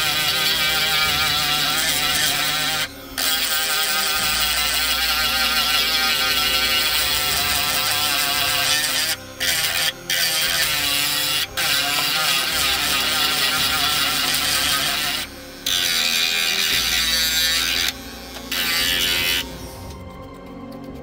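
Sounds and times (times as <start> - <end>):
rotary tool sanding wood: 0.0 - 20.0.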